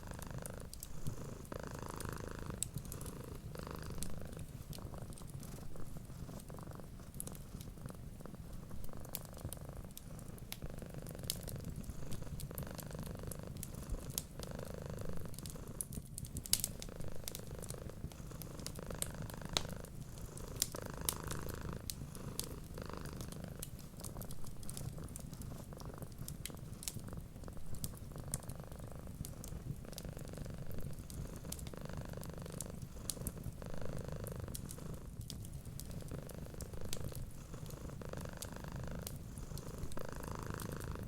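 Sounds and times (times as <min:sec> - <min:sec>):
wood fire crackling and popping: 0:00.0 - 0:14.5, 0:15.1 - 0:41.0
cat purring: 0:00.0 - 0:41.0.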